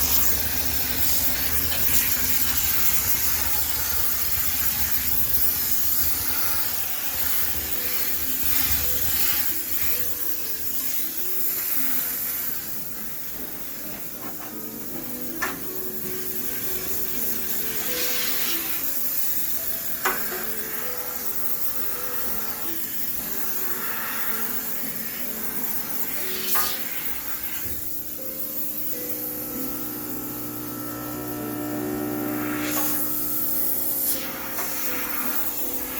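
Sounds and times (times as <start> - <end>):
background music: 0.0 - 35.9
steam cleaner hissing spray: 0.0 - 35.9.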